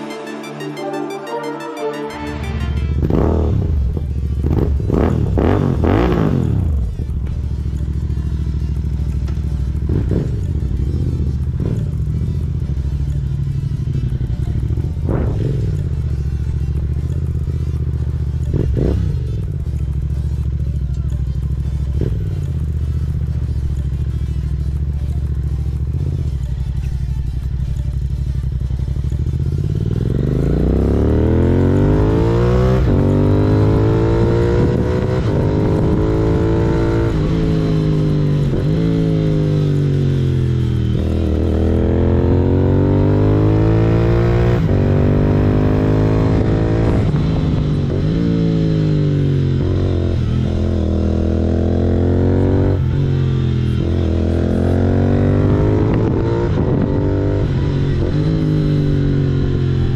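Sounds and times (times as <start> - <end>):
motorcycle engine revving: 2.8 - 59.9.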